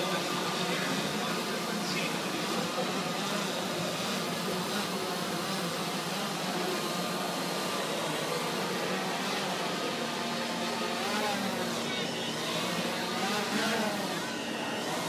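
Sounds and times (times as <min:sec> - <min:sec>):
drone propellers buzzing: 0:00.0 - 0:15.0
large hall background noise: 0:00.0 - 0:15.0.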